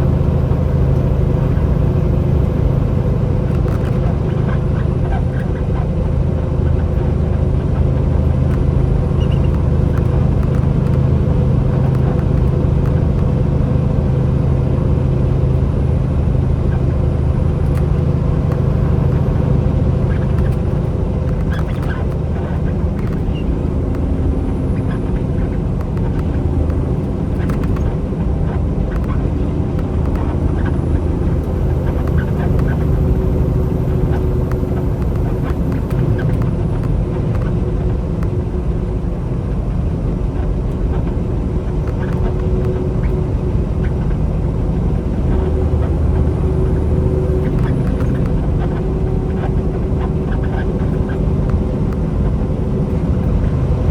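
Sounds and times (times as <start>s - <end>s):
road noise: 0.0s - 53.9s
truck engine droning: 0.0s - 53.9s.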